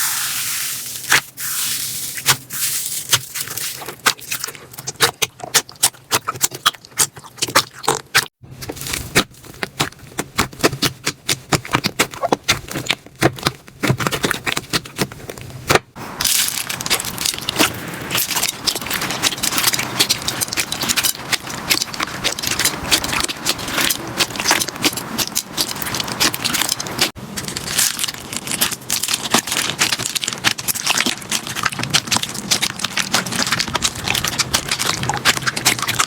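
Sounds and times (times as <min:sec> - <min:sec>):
crunchy slime crackling and popping: 0:02.1 - 0:36.0.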